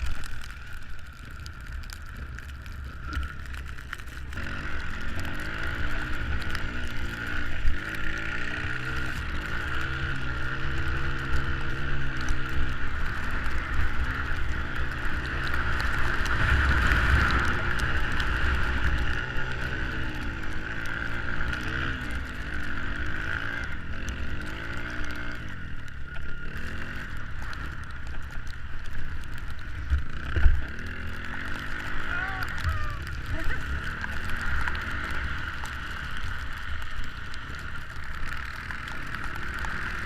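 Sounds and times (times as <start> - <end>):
off-road vehicle engine revving: 4.3 - 27.9, 29.9 - 40.0.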